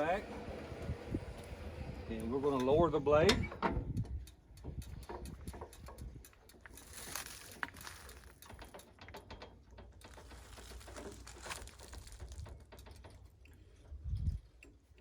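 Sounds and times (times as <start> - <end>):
faint clicks and rustles: 0.3 - 15.0.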